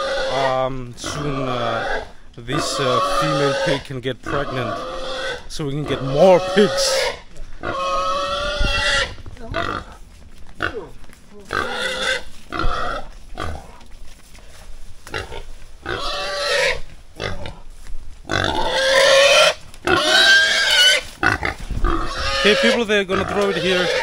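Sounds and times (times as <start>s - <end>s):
pig squealing: 0.0s - 10.0s, 11.5s - 13.8s, 15.1s - 17.6s, 18.3s - 24.0s.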